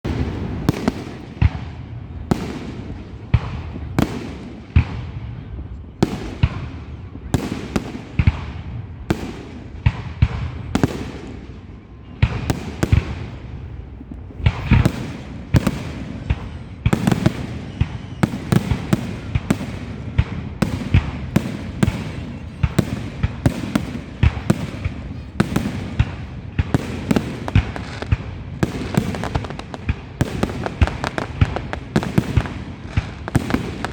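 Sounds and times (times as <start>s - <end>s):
fireworks bangs with rumbling echo: 0.0s - 33.9s.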